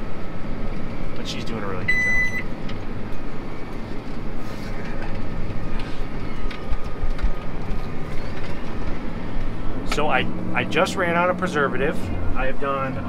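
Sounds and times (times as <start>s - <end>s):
tractor machinery drone: 0.0s - 13.0s.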